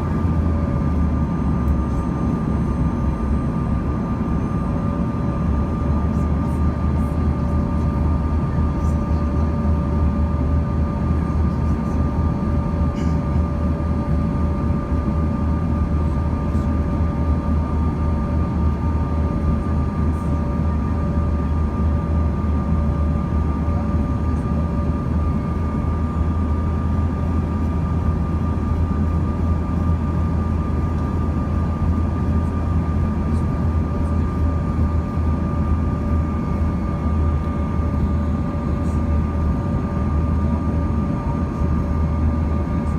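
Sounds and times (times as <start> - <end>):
low rumble of airflow and jet engines: 0.0 - 42.9.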